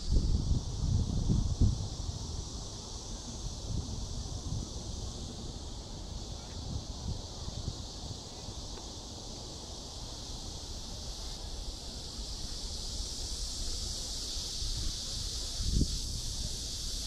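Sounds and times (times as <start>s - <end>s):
steady high-pitched hiss: 0.0s - 17.0s
wind rumble on microphone: 0.0s - 17.0s.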